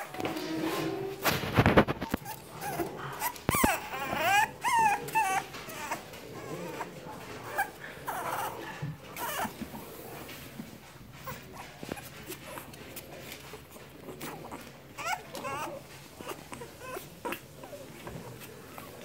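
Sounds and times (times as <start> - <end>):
puppies whimpering and squealing: 0.0 - 9.8, 11.1 - 19.0.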